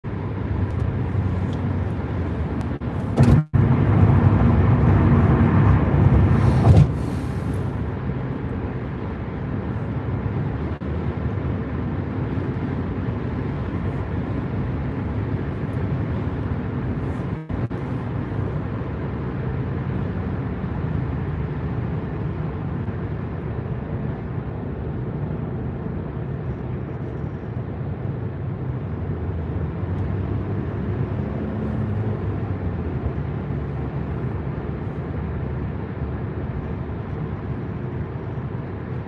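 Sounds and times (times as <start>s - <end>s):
car cabin road and engine rumble: 0.0s - 39.0s.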